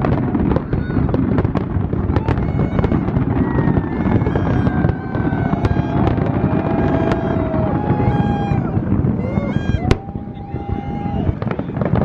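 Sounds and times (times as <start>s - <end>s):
fireworks popping: 0.0s - 12.0s
heavy continuous rumble: 0.0s - 12.0s.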